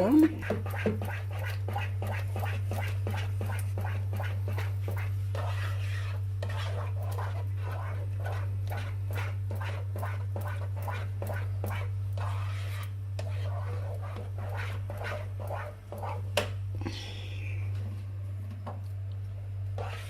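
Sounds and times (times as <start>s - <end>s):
utensil scraping a pot: 0.0s - 16.5s, 19.7s - 20.0s
low electrical hum: 0.0s - 20.0s.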